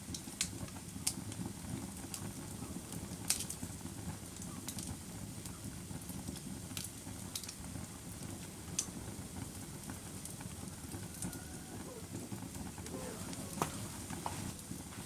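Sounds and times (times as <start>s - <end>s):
fire flames rumbling: 0.0s - 15.0s
wood fire crackling: 0.0s - 15.0s.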